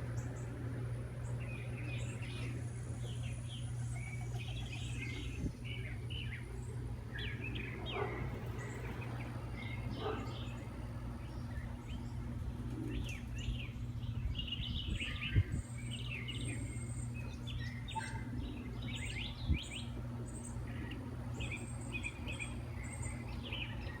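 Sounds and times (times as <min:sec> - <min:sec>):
small birds chirping and trilling: 0:00.0 - 0:24.0
steady low rumble: 0:00.0 - 0:24.0.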